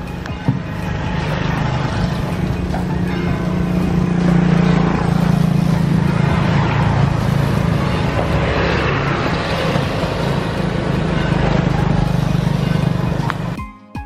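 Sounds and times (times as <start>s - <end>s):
motorbike engine running: 0.0s - 13.6s.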